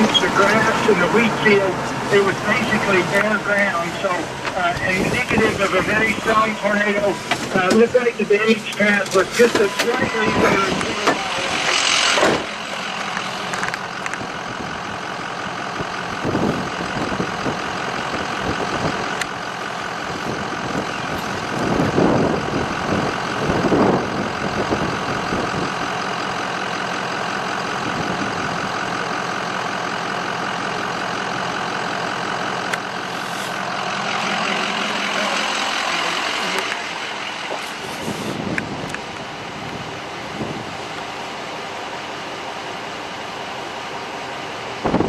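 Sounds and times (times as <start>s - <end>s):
vehicle engine and road noise: 0.0s - 45.0s.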